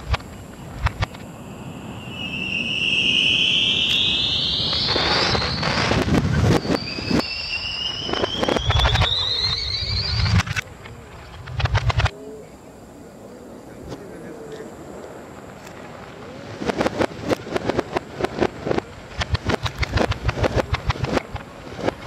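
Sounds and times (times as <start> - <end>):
firework bangs and crackling: 0.0 - 12.1, 15.8 - 22.0
reversed firework whistles: 0.0 - 12.1, 16.0 - 22.0.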